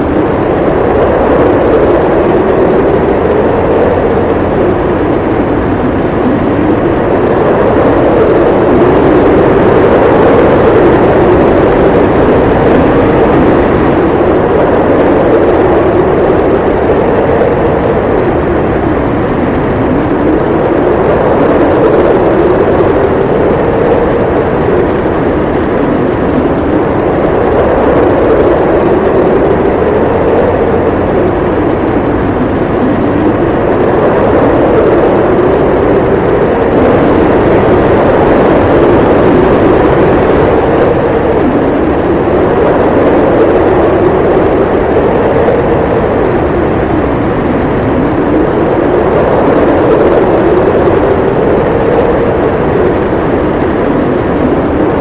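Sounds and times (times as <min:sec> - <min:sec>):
howling wind: 0:00.0 - 0:55.0.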